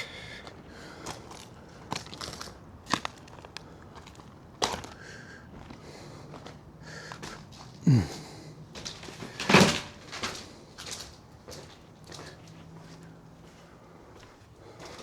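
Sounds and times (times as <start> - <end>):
footsteps crunching over debris: 1.0 - 8.0, 8.8 - 15.0.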